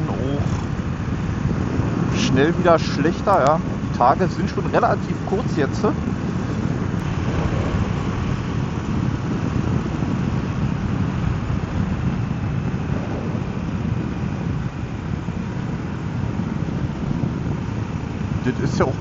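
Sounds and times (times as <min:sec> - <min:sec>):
motorcycle engine running: 0:00.0 - 0:19.0
wind and road noise: 0:00.0 - 0:19.0
wind buffeting microphone: 0:00.0 - 0:19.0.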